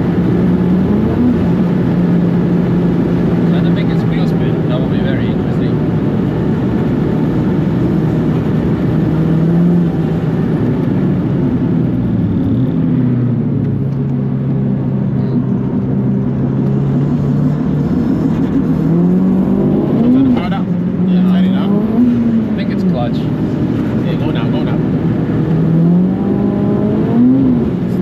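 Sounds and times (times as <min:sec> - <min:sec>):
turbocharged car engine running: 0:00.0 - 0:28.0.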